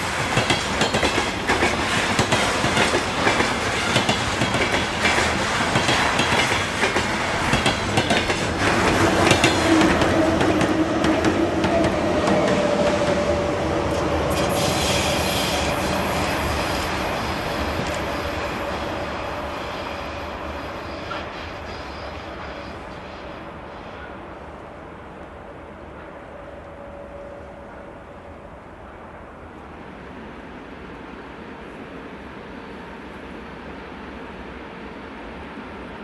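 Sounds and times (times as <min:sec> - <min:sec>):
wheel and rail noise: 0:00.0 - 0:30.1
electric locomotive passing: 0:00.0 - 0:36.0.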